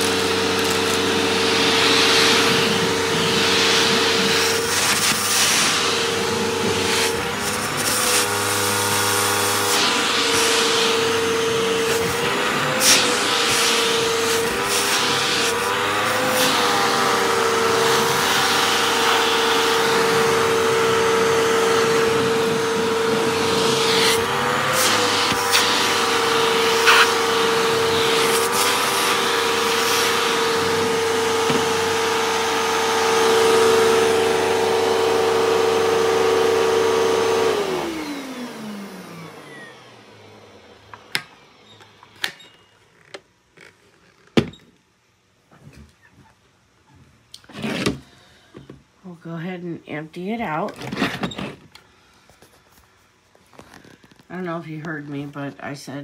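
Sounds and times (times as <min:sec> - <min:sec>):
vacuum cleaner motor whine: 0:00.0 - 0:44.7, 0:50.4 - 0:56.0.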